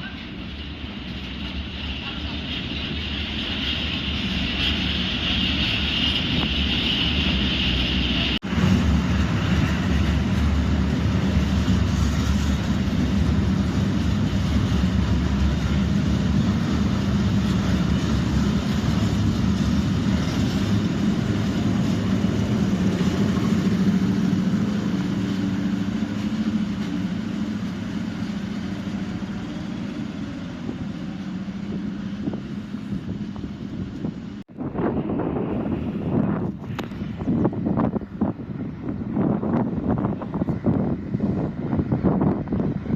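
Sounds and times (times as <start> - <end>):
locomotive engine drone: 0.0 - 42.9.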